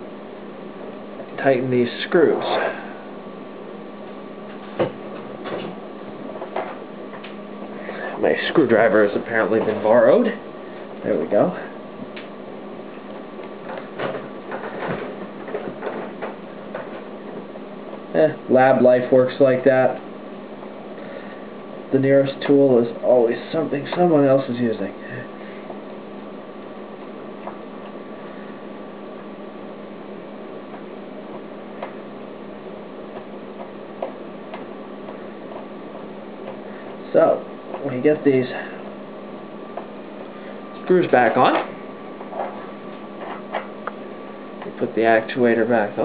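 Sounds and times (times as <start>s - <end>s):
steady background hum: 0.0s - 46.0s.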